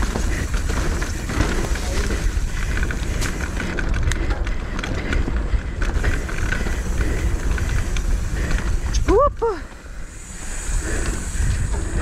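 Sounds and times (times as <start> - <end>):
bike rattling and clicking: 0.0 - 12.0
wind buffeting microphone: 0.0 - 12.0.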